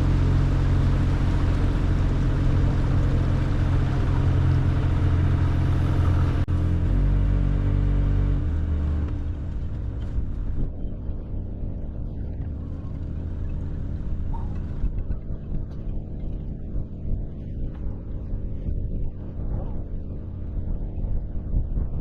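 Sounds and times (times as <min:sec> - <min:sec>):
boat engine low rumble: 0:00.0 - 0:22.0.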